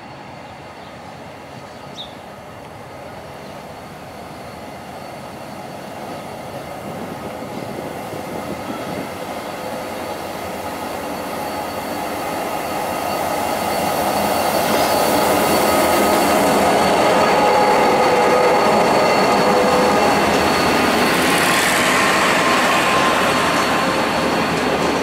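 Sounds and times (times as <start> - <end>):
diesel locomotive engine: 0.0 - 25.0
train wheels on rails: 0.0 - 25.0
steady high tones: 3.6 - 25.0.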